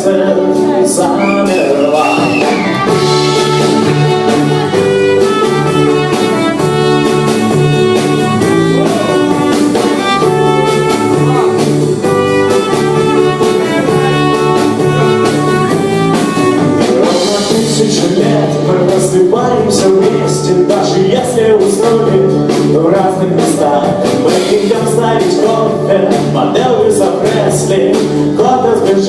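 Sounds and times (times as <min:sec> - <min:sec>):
drum kit beat: 0:00.0 - 0:29.0
live band playing pop-rock: 0:00.0 - 0:29.0.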